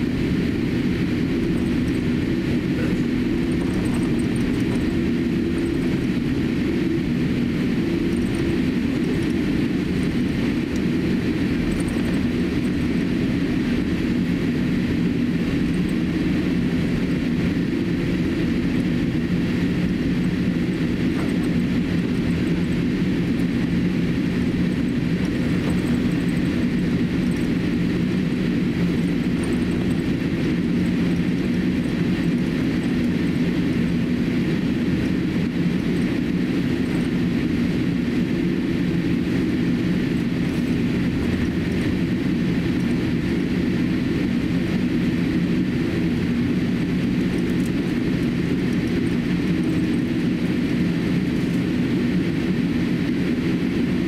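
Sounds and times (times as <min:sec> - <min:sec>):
jet engine cabin hum: 0:00.0 - 0:54.0.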